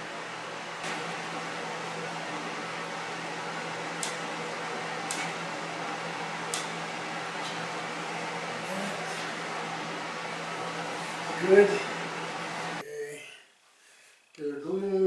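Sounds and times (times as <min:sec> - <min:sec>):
fan whirring with low hum: 0:00.0 - 0:12.9.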